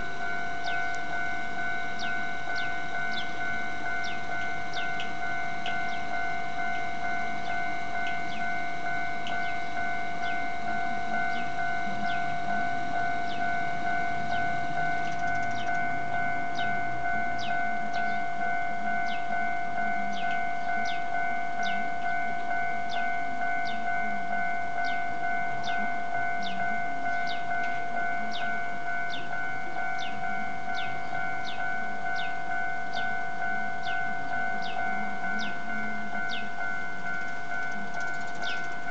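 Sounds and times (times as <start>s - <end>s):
level-crossing warning bell ringing: 0.0s - 38.9s.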